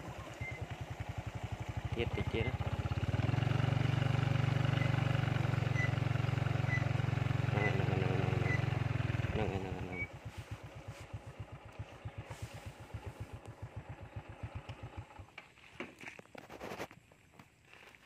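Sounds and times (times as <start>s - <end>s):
engine chugging: 0.0s - 15.8s.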